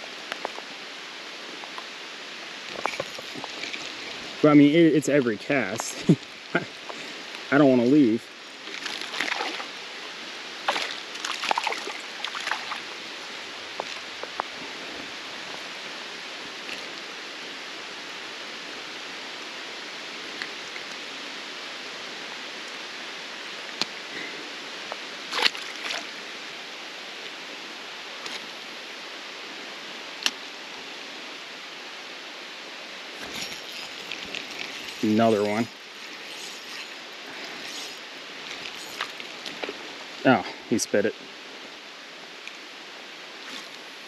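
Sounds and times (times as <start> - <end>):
flowing water: 0.0 - 44.0
rain falling on creek: 0.0 - 44.0.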